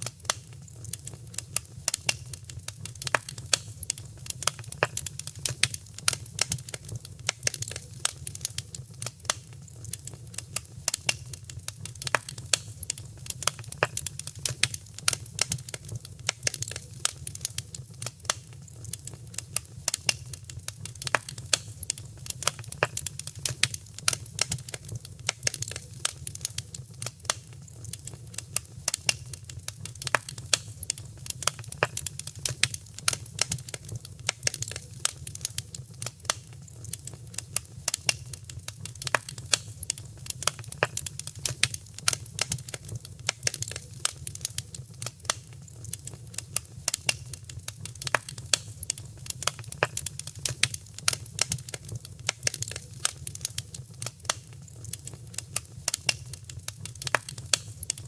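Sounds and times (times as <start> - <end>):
fire crackling and popping: 0.0 - 58.0
low rumble of fire: 0.0 - 58.0.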